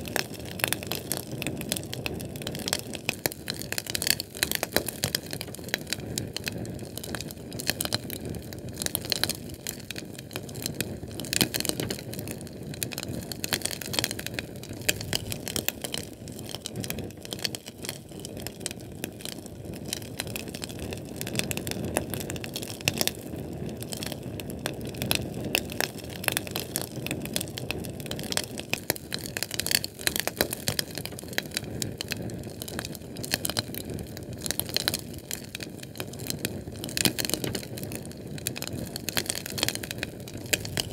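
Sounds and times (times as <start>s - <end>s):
canned fuel flame crackling: 0.0s - 40.9s.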